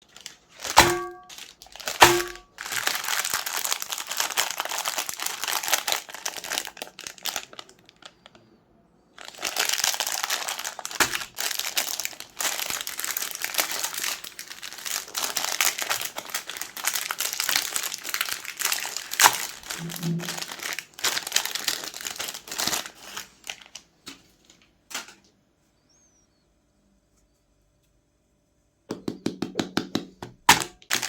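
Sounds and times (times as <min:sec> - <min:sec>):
plastic wrappers crinkling: 0:00.0 - 0:08.5, 0:09.1 - 0:25.2, 0:30.4 - 0:31.0.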